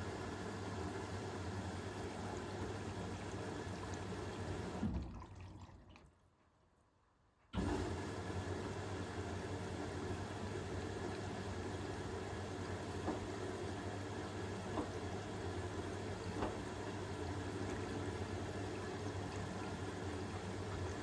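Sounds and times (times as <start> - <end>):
washing machine motor hum: 0.0 - 5.3, 7.6 - 21.0.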